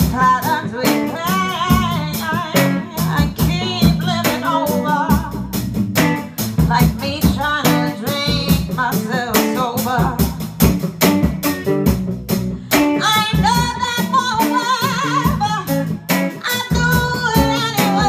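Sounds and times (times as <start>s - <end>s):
woman singing into microphone: 0.0s - 5.6s, 6.6s - 10.5s, 12.8s - 18.0s
strummed guitar: 0.0s - 18.0s.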